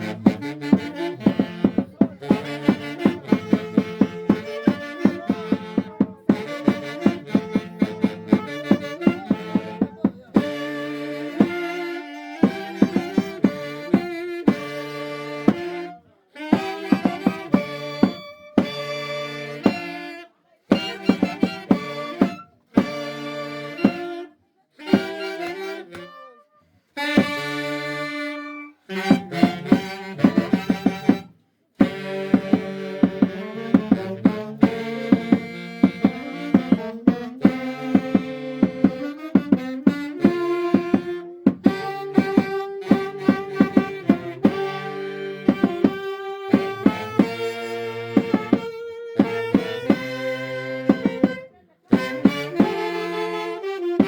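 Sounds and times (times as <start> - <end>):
steady percussion beat: 0.0 - 15.9, 16.5 - 20.0, 20.7 - 24.2, 27.0 - 53.7
saxophone melody: 0.0 - 54.0.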